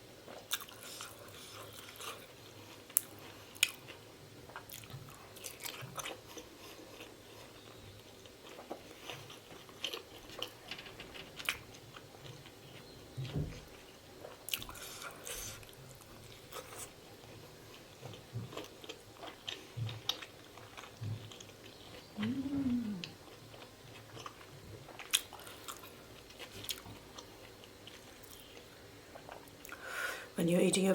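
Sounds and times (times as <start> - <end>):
person chewing food: 0.3 - 29.9.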